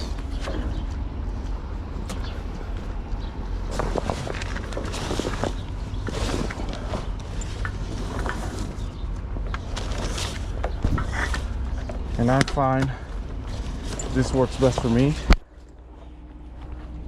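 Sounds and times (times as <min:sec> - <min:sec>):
heavy tarp rustling and scraping: 0:00.0 - 0:15.3
low steady rumble: 0:00.0 - 0:17.0.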